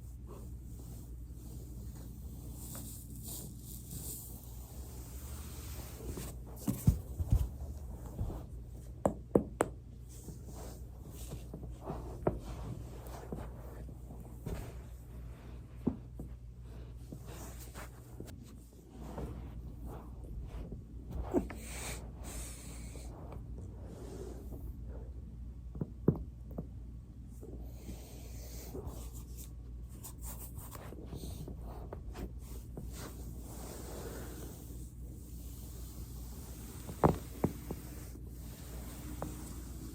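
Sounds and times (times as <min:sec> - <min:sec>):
body rubbing on foam roller: 0:00.0 - 0:09.0, 0:10.0 - 0:24.7, 0:28.6 - 0:39.9
low steady hum: 0:00.0 - 0:39.9.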